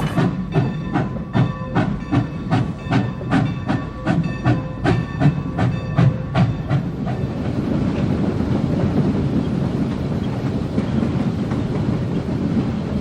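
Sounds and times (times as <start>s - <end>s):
steam locomotive exhaust chuffing: 0.0s - 13.0s.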